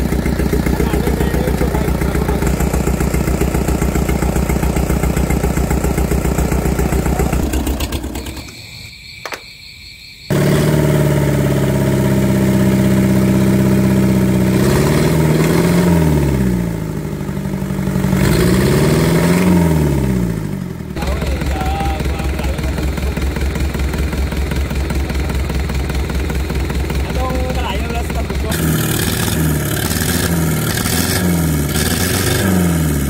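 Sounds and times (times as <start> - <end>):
diesel engine running: 0.0 - 8.7, 10.3 - 33.0.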